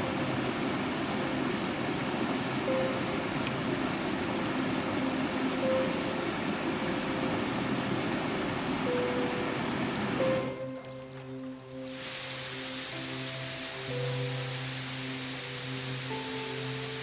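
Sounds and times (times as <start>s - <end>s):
rushing water: 0.0s - 17.0s
soft instrumental music: 0.0s - 17.0s.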